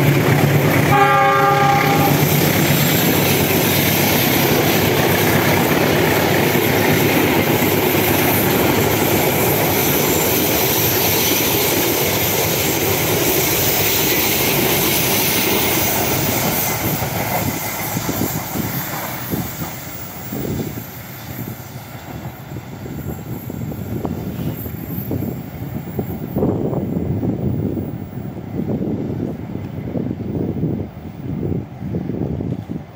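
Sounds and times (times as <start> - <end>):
train wheels rushing on rails: 0.0 - 32.9.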